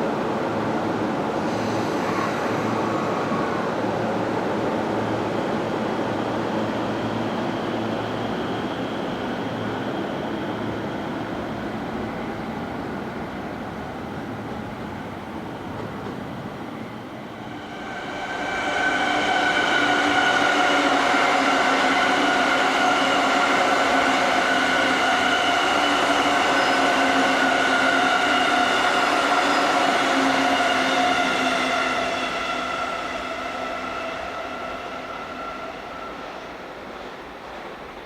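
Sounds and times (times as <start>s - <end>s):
train wheel and rail noise: 0.0s - 38.0s.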